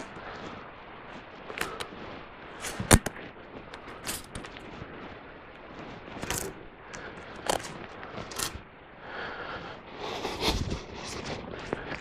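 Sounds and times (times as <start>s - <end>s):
low outdoor background: 0.0s - 12.0s.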